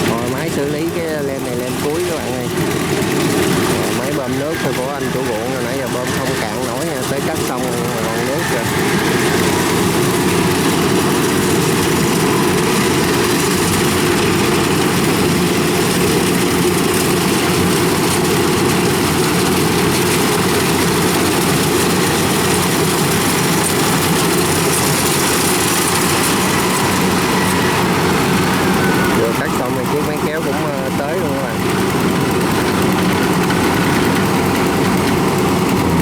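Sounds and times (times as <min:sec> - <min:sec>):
combine harvester diesel engine: 0:00.0 - 0:36.0.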